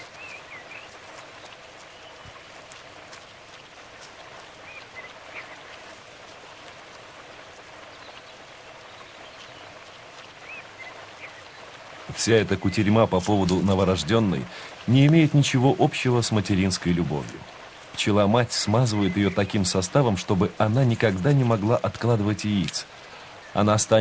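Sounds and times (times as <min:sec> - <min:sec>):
outdoor background hiss: 0:00.0 - 0:24.0
small crackles: 0:00.0 - 0:24.0.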